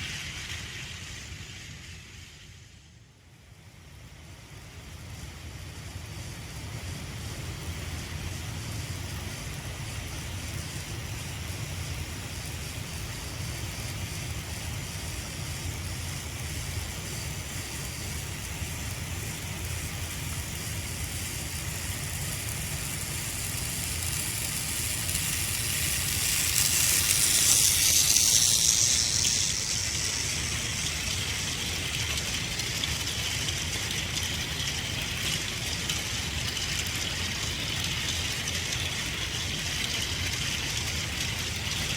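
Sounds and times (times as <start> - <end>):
toy train whirring rattle: 0.0 - 41.9.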